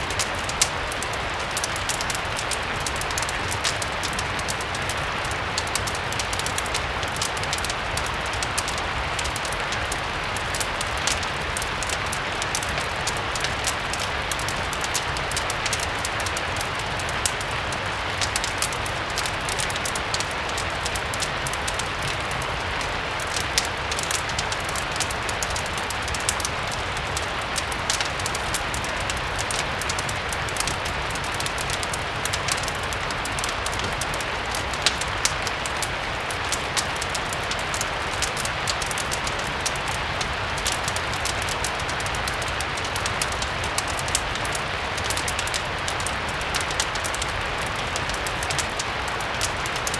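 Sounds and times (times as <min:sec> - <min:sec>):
fireplace crackling: 0:00.0 - 0:49.9
steady rain hiss: 0:00.0 - 0:49.9.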